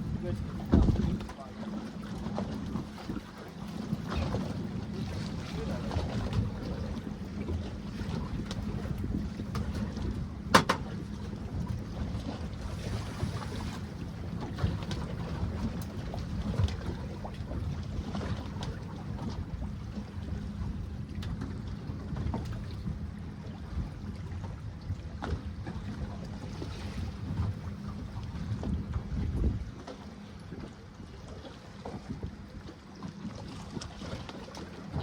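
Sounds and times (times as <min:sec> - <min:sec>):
wind buffeting microphone: 0:00.0 - 0:01.4, 0:02.4 - 0:26.0, 0:26.6 - 0:29.8
water noise: 0:00.0 - 0:35.0.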